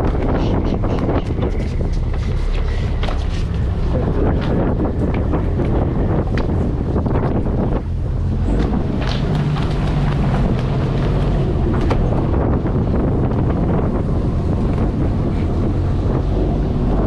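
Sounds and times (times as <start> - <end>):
boat engine drone: 0.0 - 17.0
wind buffeting microphone: 0.0 - 17.0.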